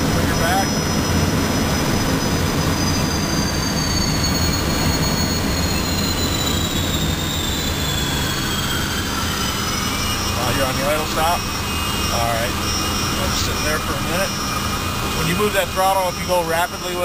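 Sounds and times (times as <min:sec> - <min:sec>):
high compressor whines: 0:00.0 - 0:17.0
jet engine rumble: 0:00.0 - 0:17.0.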